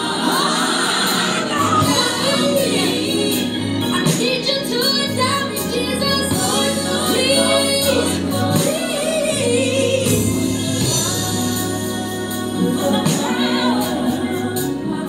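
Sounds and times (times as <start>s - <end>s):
sustained bass notes: 0.0s - 15.0s
woman singing gospel song: 0.0s - 15.0s.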